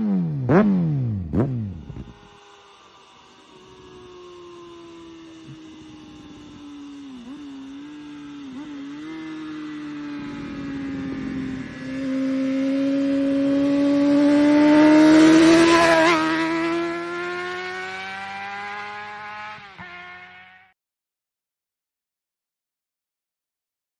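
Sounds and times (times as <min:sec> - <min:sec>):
motorcycle passing at speed: 0:00.0 - 0:20.8.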